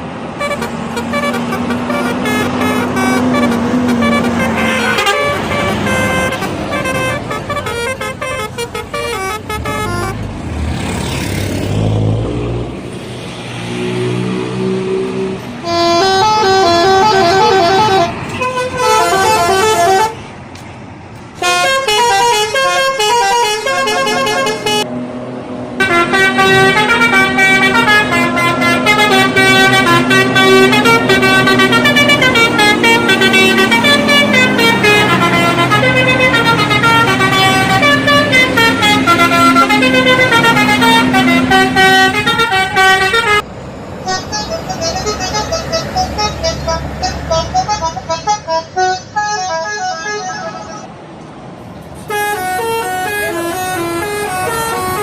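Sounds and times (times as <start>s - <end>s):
bus engine rumble: 0.0s - 55.0s
traffic noise: 0.0s - 55.0s
musical air horns playing melodies: 0.4s - 10.3s, 15.6s - 20.2s, 21.4s - 24.9s, 25.8s - 50.9s, 52.0s - 55.0s.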